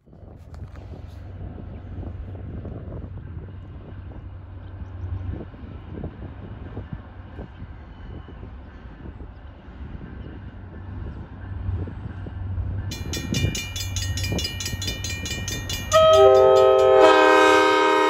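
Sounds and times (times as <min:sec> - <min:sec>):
wind buffeting microphone: 0:00.0 - 0:18.0
distant diesel locomotives droning: 0:00.6 - 0:18.0.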